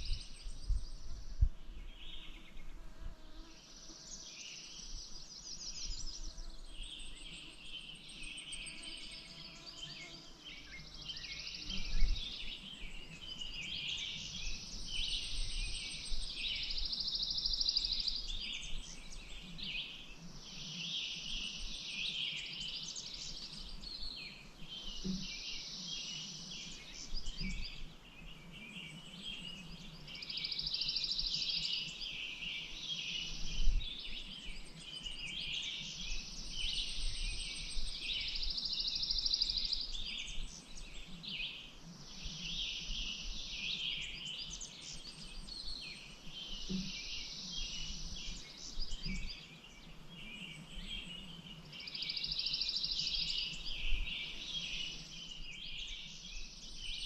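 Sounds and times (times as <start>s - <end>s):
small birds chirping and singing: 0.0s - 57.0s.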